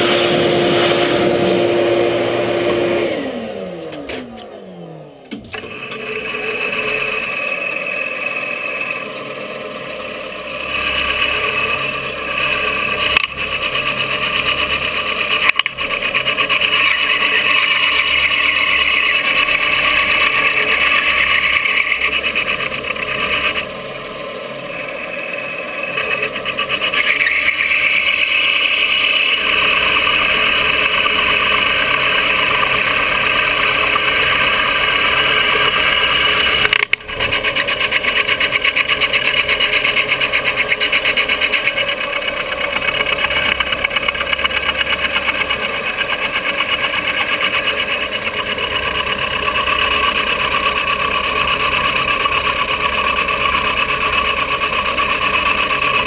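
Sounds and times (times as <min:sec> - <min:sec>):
milling machine cutting metal: 0:00.0 - 0:56.0.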